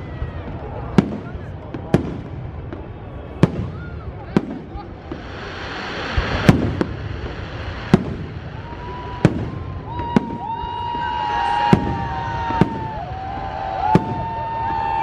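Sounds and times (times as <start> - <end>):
fireworks bangs: 0.0 - 15.0
fireworks whistling: 0.0 - 15.0.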